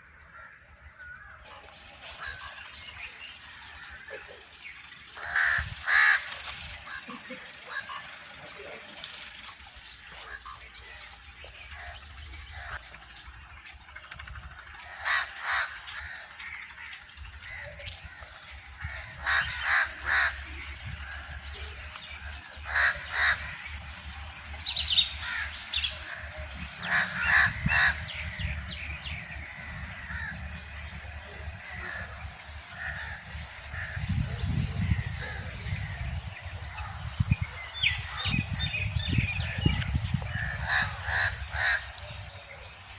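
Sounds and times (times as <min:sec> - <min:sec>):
loud bird calls: 0:00.0 - 0:42.9.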